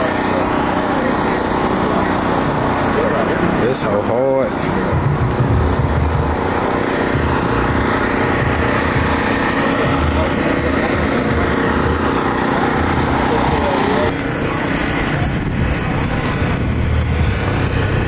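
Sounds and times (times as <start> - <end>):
motor drone: 0.0 - 18.0.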